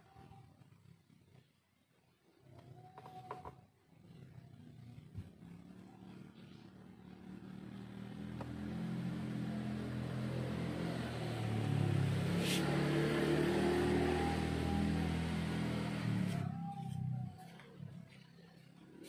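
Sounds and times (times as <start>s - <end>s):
scooter engine running: 2.8s - 19.0s.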